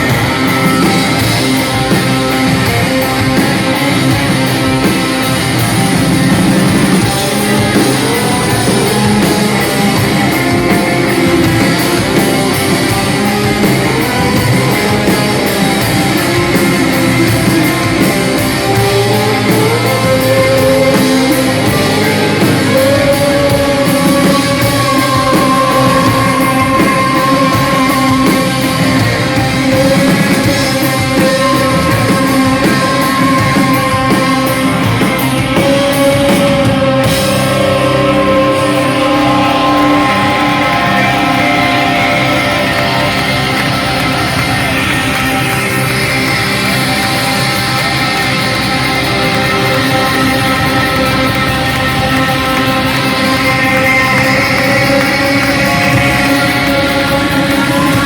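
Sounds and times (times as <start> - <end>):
guitar sustained notes: 0.0 - 58.0
rock band playing live: 0.0 - 58.0.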